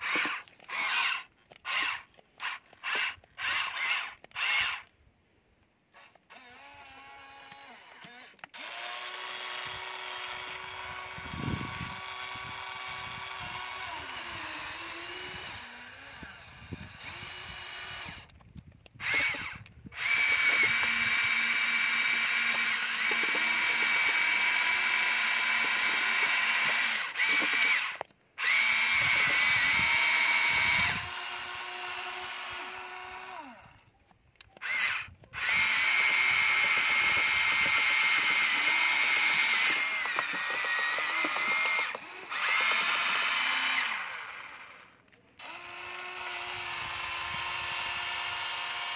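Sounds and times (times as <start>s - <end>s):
toy electric motors whining: 0.0s - 4.9s, 5.9s - 48.9s.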